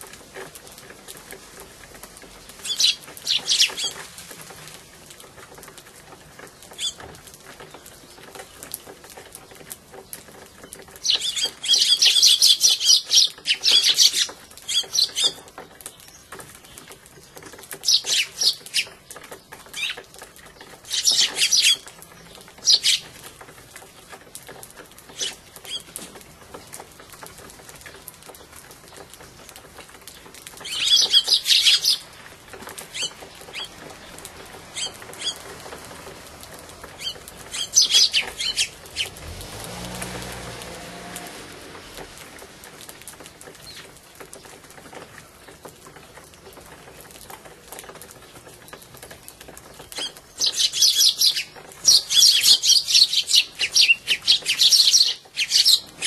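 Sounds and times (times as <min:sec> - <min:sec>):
sparrows chirping: 0:00.0 - 0:39.5, 0:41.7 - 0:56.0.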